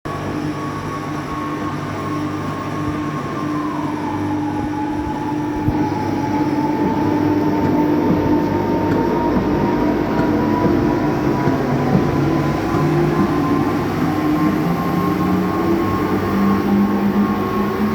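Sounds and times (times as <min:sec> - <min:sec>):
machine whining: 0:00.1 - 0:17.9.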